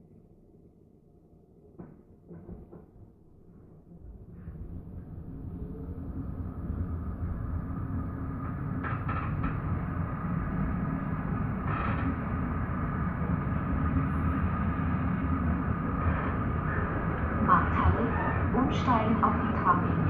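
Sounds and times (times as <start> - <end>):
tram running on rails: 1.8 - 20.0.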